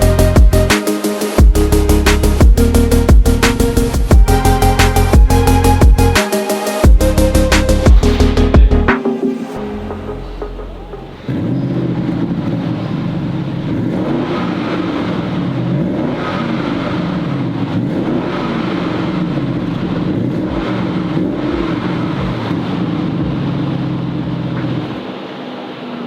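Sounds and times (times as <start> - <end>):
car exhaust revving: 0.0 - 8.9, 9.6 - 26.0.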